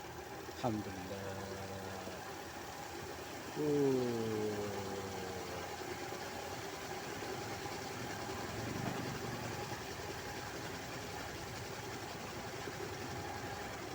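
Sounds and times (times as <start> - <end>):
spin dryer running: 0.0 - 13.9.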